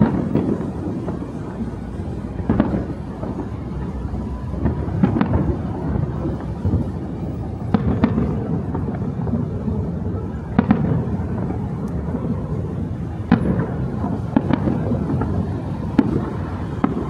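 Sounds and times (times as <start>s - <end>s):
continuous low rumble: 0.0s - 17.0s.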